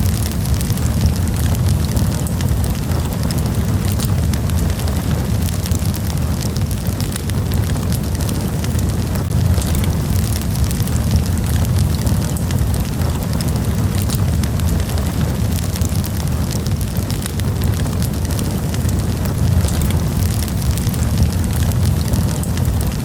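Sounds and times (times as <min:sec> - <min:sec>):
campfire crackling and popping: 0:00.0 - 0:23.0
low fire rumble: 0:00.0 - 0:23.0.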